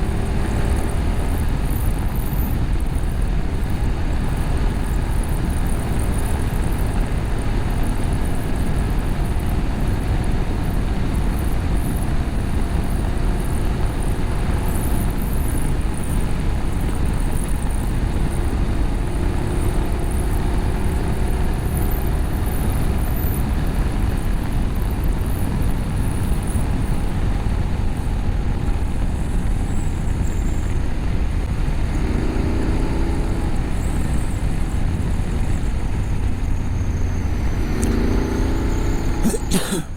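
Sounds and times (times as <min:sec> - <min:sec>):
wind rush on microphone: 0:00.0 - 0:39.6
motorcycle engine running: 0:00.0 - 0:39.9.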